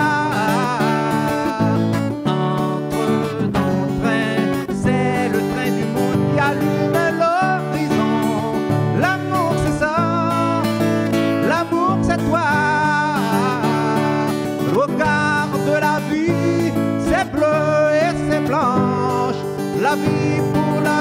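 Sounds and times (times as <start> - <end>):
acoustic guitar strumming: 0.0 - 21.0
person singing with vibrato: 0.0 - 21.0.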